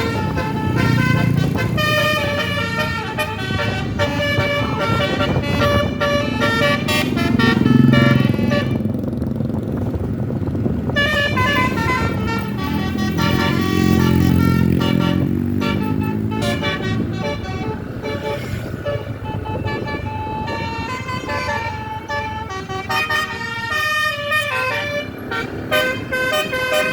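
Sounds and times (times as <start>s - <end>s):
multi-note bus horn melody: 0.0s - 9.1s, 10.9s - 26.9s
bus engine running: 0.0s - 26.9s.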